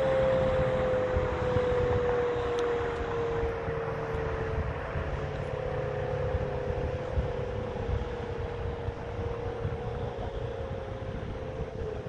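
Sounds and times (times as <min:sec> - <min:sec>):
rotating siren tone: 0:00.0 - 0:12.0.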